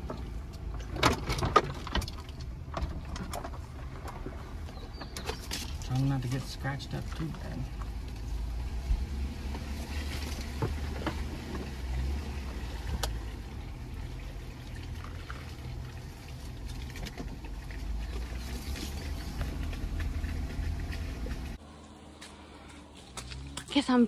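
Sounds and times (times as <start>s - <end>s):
low engine rumble: 0.0s - 24.0s
tyres crunching over gravel: 0.0s - 24.0s.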